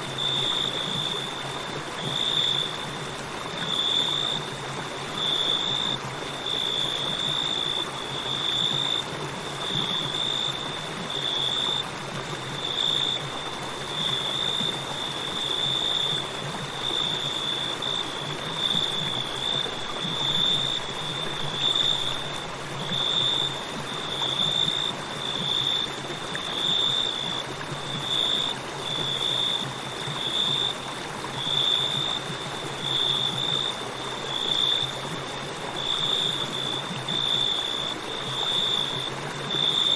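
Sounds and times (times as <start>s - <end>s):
crickets chirping: 0.0s - 39.9s
river water flowing: 0.0s - 39.9s.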